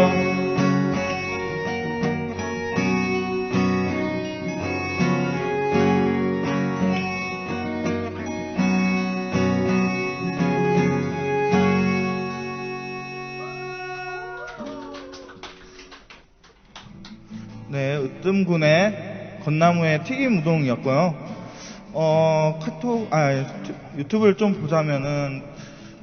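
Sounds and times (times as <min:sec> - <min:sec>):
acoustic guitar playing: 0:00.0 - 0:14.5, 0:16.8 - 0:26.0.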